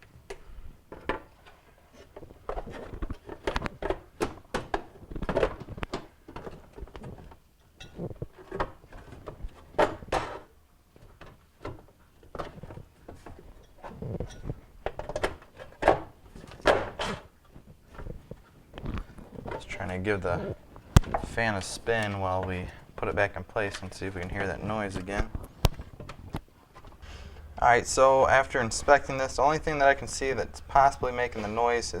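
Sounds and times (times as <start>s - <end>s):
plastic and metal parts clunking: 0.1s - 27.7s.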